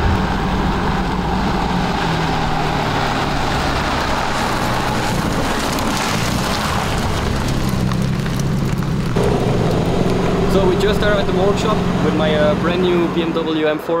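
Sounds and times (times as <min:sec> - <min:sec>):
car engine running: 0:00.0 - 0:13.8
tyre and road noise: 0:00.0 - 0:14.0.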